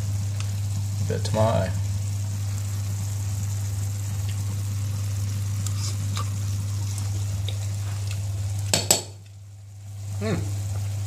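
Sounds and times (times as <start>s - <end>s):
curry sizzling in a frying pan: 0.0s - 11.0s.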